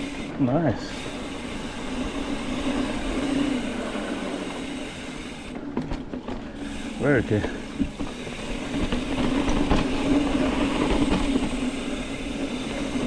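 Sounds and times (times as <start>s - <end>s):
bicycle freewheel buzzing: 0.0s - 13.0s
bike clattering over bumps: 0.0s - 13.0s
tyre and wind noise: 0.9s - 13.0s.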